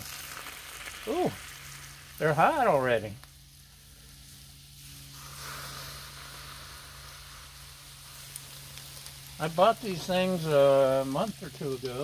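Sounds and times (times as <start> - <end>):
broth hissing on hot iron: 0.0 - 12.0.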